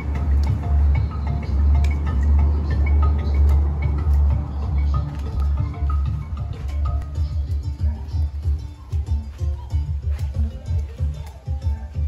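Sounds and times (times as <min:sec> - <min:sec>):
music with pulsing bass beat: 0:00.0 - 0:12.0.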